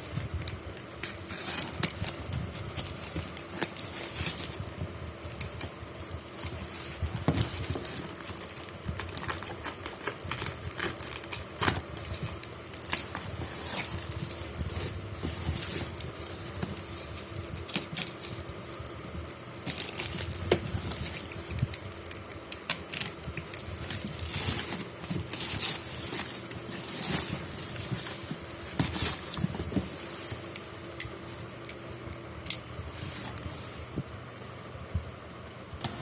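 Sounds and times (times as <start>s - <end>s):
packaging rustling and crinkling: 0.0s - 35.1s
faint steady hum: 0.0s - 36.0s.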